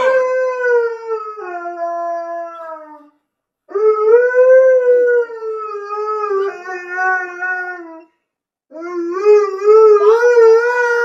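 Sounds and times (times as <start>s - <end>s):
dog howling: 0.0s - 3.1s, 3.7s - 8.0s, 8.7s - 11.0s.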